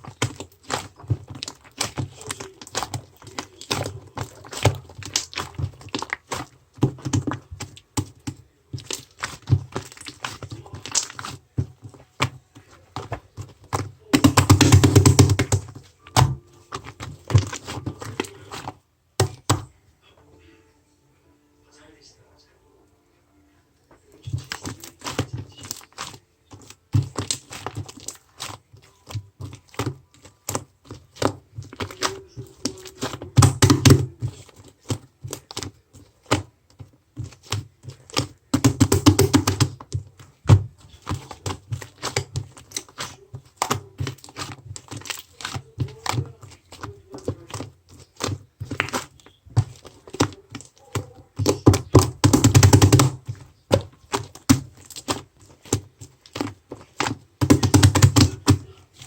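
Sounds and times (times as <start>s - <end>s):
rapid clicking and tapping: 0.0s - 19.7s, 24.2s - 59.0s.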